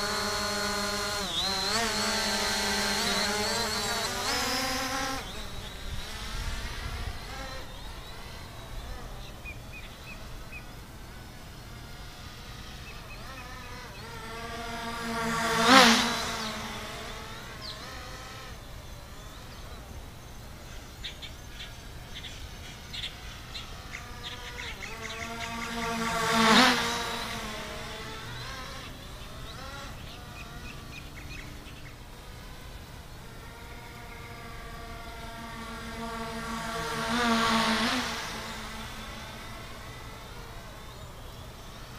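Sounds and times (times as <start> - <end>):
quadcopter buzzing: 0.0 - 41.9.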